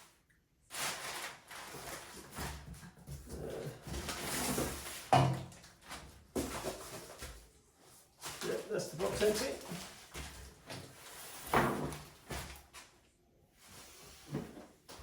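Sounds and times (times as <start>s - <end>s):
rustling and scraping of packing: 0.7s - 13.0s, 13.6s - 15.0s.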